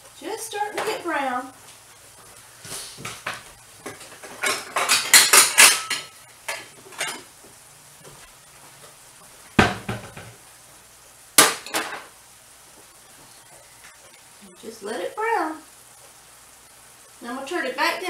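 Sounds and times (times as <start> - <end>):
faint sizzle: 0.0 - 18.0.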